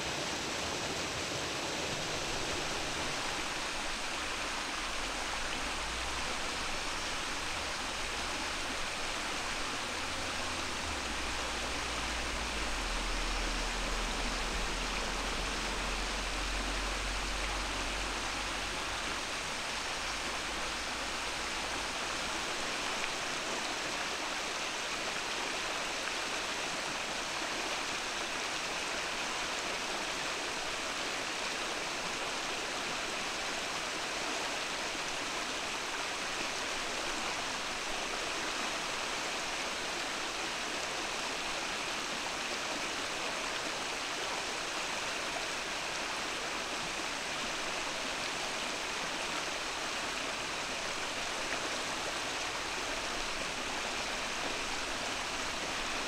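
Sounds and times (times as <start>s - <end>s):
mountain stream babbling: 0.0s - 56.0s.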